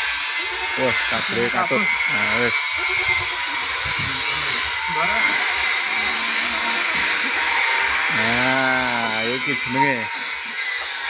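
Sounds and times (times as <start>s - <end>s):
goat bleating: 0.5s - 10.4s.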